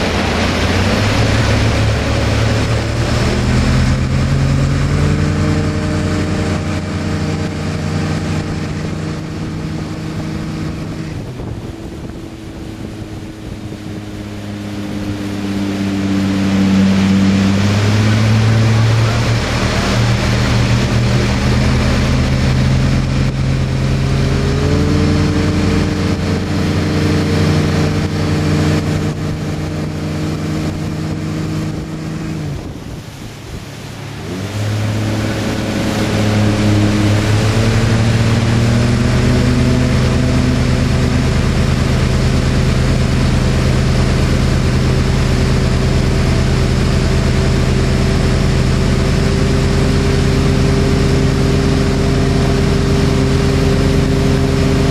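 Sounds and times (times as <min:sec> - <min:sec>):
boat engine running: 0:00.0 - 0:54.9
water rushing along hull: 0:00.0 - 0:54.9.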